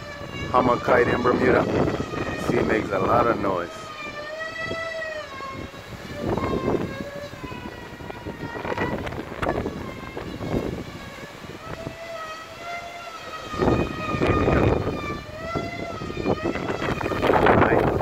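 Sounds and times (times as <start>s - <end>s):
kite hummer droning: 0.0s - 18.0s
wind rumbling on microphone: 0.0s - 18.0s.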